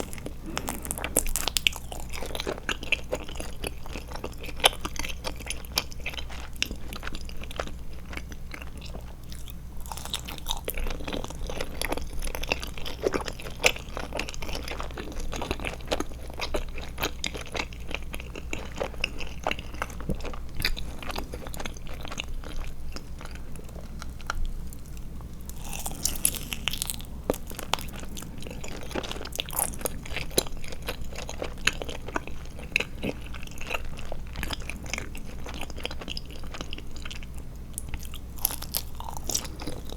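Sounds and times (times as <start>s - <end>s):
chewing gummy candy: 0.0s - 39.9s.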